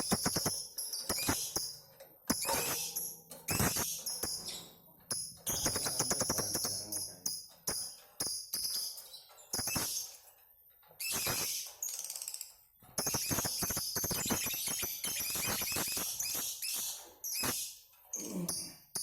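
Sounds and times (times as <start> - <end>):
lovebirds chattering trills: 0.0 - 10.2, 13.0 - 18.7.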